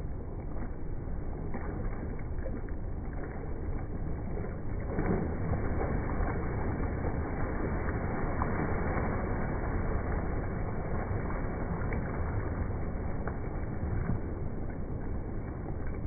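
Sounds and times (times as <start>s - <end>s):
pool water splashing: 0.0s - 16.0s.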